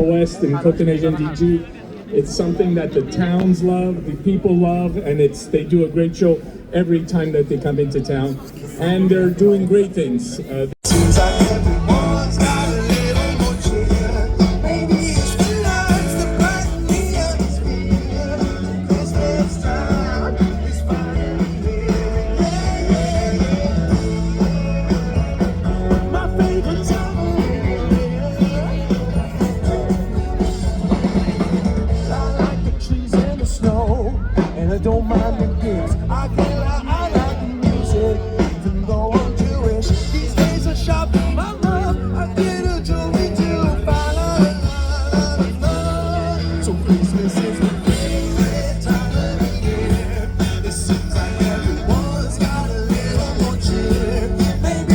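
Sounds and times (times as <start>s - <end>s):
bass and drum beat: 10.8s - 54.9s
live rock band playing: 10.8s - 54.9s
person singing: 10.8s - 54.9s.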